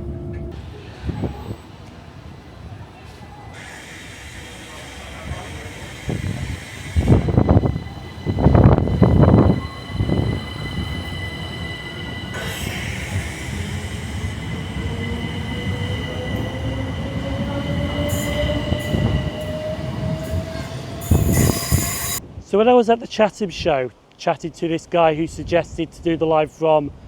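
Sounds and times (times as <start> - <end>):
electric train whine: 0.0 - 22.2.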